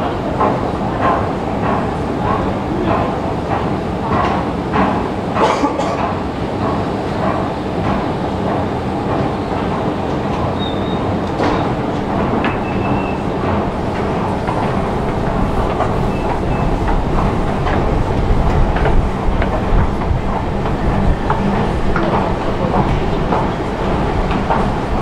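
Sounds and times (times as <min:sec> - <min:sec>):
escalator rumble and hum: 0:00.0 - 0:25.0.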